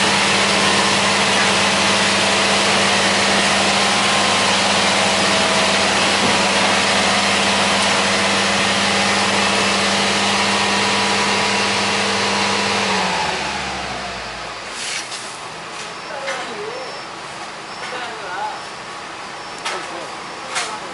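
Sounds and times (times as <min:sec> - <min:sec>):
construction machinery engine hum: 0:00.0 - 0:20.9.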